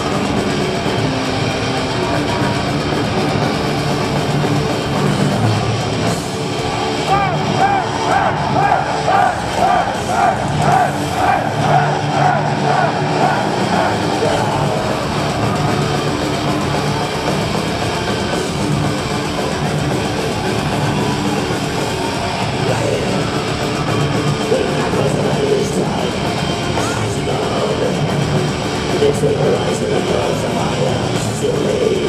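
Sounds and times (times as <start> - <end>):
metal band playing live: 0.0 - 32.0.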